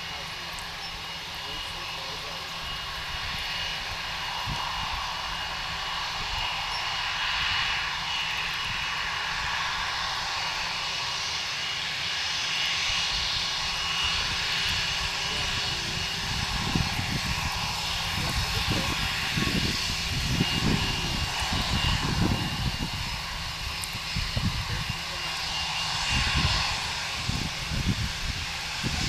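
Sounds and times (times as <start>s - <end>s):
jet engine whine: 0.0s - 29.0s.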